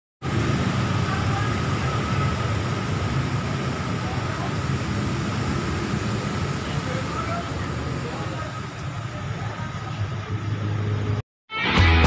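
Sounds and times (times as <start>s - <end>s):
crowd chatter: 0.5s - 11.2s.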